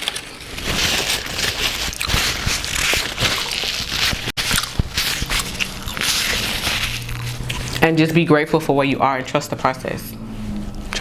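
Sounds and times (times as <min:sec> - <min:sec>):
food eating handling noises: 0:00.0 - 0:09.0, 0:10.1 - 0:11.0.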